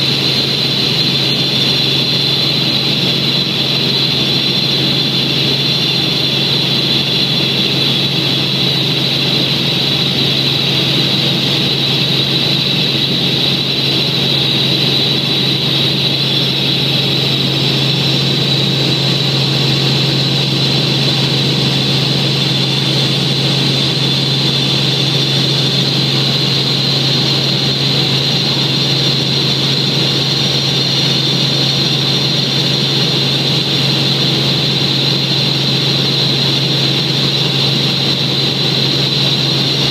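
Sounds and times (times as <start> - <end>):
helicopter engine and rotors drone: 0.0 - 39.9
high whine: 0.0 - 39.9.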